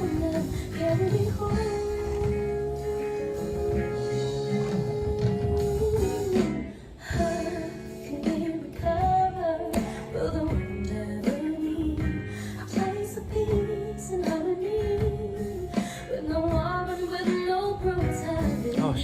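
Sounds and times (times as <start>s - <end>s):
band with guitar: 0.0s - 19.0s
woman singing a ballad: 0.0s - 19.0s.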